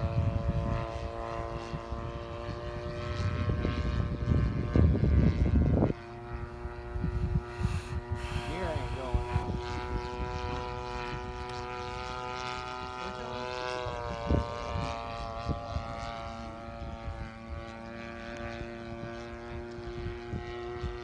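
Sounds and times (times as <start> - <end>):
model plane motor droning: 0.0 - 21.0.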